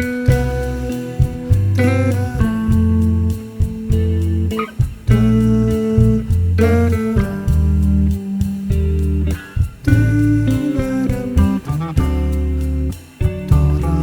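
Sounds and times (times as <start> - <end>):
plucked guitar: 0.0 - 14.0
repeating bass line: 0.0 - 14.0.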